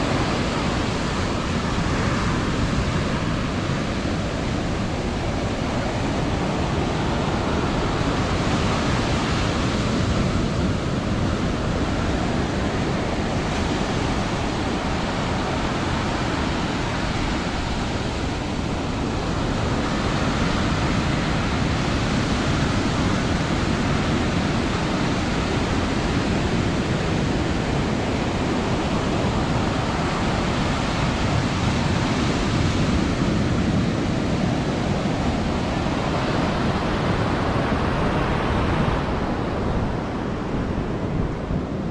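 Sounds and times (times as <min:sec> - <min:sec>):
waves breaking: 0:00.0 - 0:41.9.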